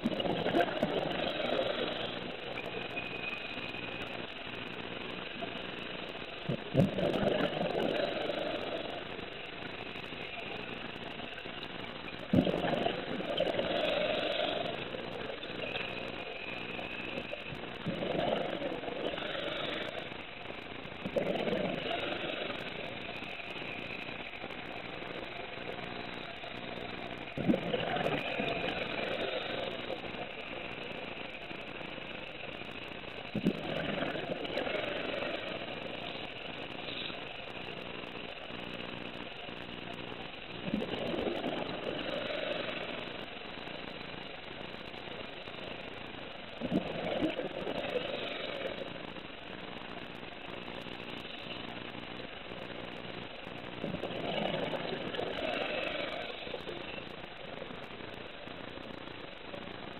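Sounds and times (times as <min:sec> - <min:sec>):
exhaled bubbles gurgling underwater: 0:00.0 - 0:59.9
steady low hum: 0:00.0 - 0:59.9.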